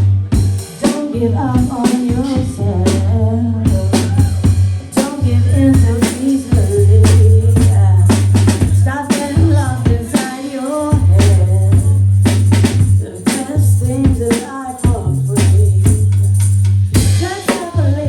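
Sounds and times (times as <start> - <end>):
deep sustained bassline: 0.0 - 10.1, 10.8 - 14.3, 14.9 - 17.1
drum kit playing busy beat: 0.0 - 18.0.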